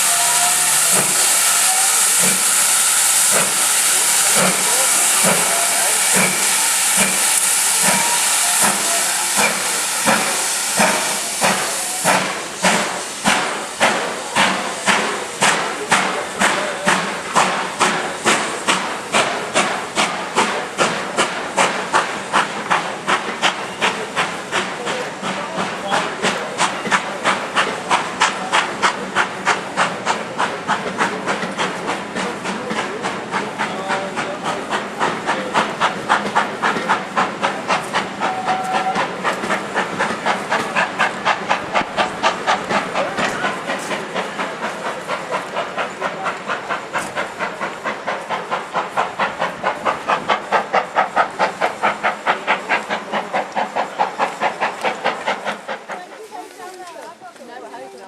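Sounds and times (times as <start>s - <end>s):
steam locomotive exhaust beats: 0.0s - 57.4s
steam hissing: 0.0s - 58.0s.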